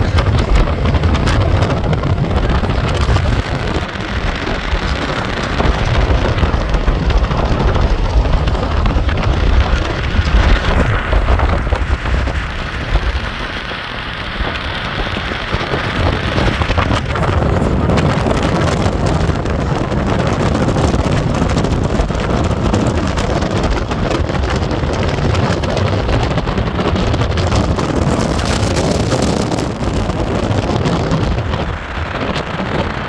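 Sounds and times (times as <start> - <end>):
low vehicle rumble: 0.0 - 33.0
wind noise on microphone: 0.0 - 33.0.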